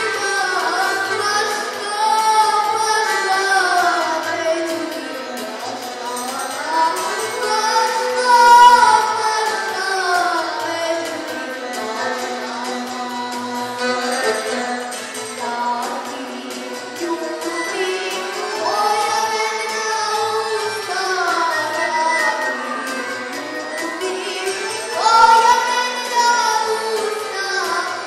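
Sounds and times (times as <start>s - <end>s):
accordions playing: 0.0s - 28.0s
boy singing into microphone: 0.0s - 28.0s.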